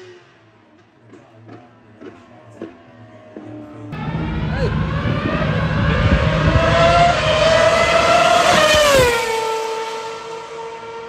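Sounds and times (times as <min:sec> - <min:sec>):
race car passing at speed: 0:02.0 - 0:11.0.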